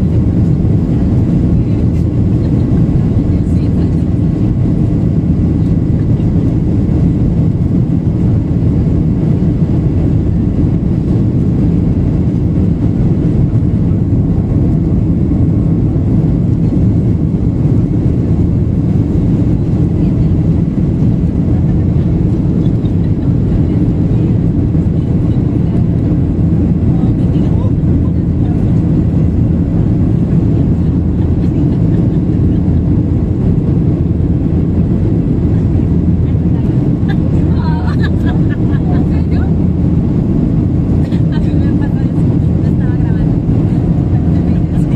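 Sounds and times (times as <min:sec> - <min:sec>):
airplane cabin engine rush: 0:00.0 - 0:44.9.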